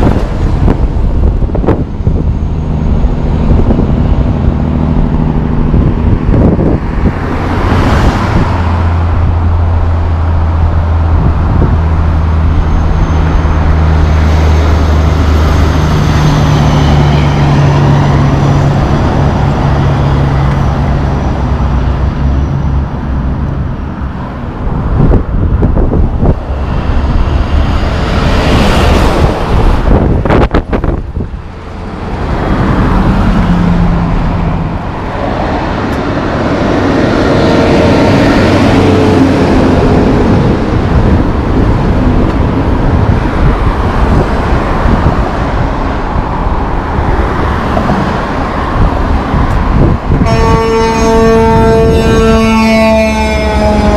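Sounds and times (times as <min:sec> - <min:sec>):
road traffic and tyre noise: 0:00.0 - 0:53.9
truck diesel engine droning: 0:00.0 - 0:53.9
vehicle passing close: 0:00.0 - 0:53.9.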